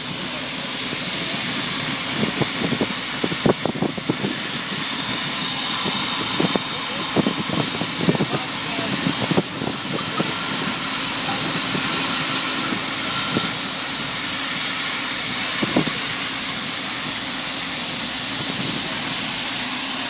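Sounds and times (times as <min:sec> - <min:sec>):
loud hissing air: 0:00.0 - 0:20.0.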